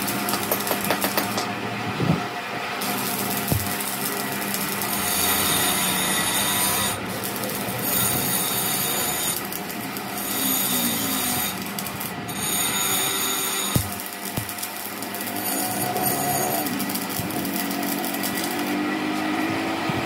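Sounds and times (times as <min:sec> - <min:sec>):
welding arc crackling: 0:00.0 - 0:01.6, 0:02.8 - 0:18.8.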